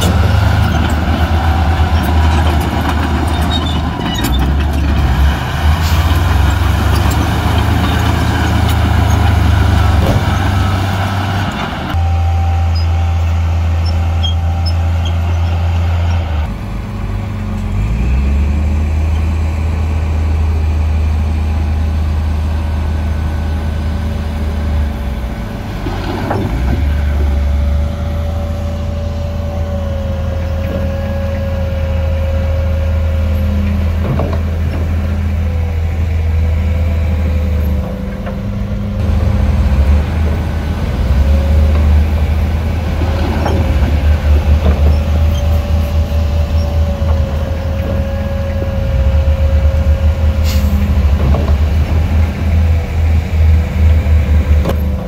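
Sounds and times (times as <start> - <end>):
diesel machinery engine rumble: 0.0 - 55.0.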